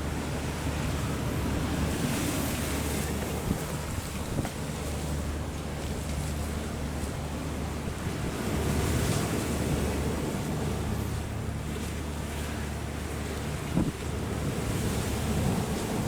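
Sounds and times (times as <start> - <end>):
choppy sea: 0.0 - 16.0
low engine hum: 0.0 - 16.0.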